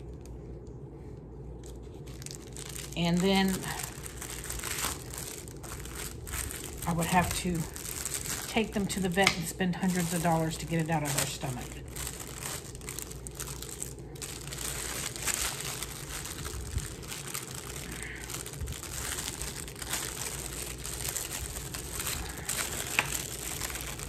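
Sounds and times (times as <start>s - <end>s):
plastic packaging crinkling: 1.6s - 24.0s.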